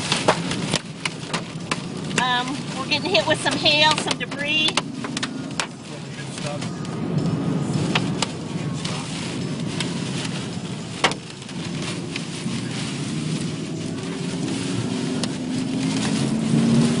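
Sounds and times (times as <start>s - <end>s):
hail hitting a car: 0.0s - 17.0s
wind and road noise: 0.0s - 17.0s.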